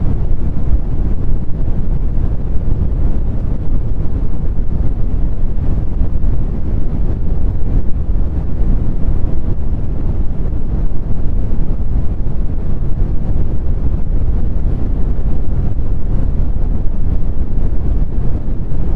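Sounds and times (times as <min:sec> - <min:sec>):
brown noise: 0:00.0 - 0:18.9.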